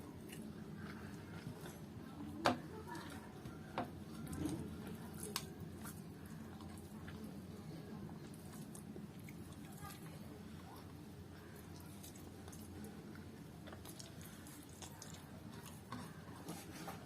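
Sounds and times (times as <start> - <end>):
person chewing food: 0.0 - 2.2, 2.8 - 10.1, 10.8 - 17.0.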